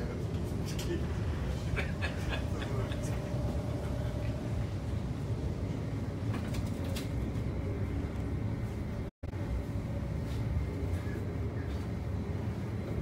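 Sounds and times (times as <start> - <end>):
tram rumble: 0.0 - 13.0.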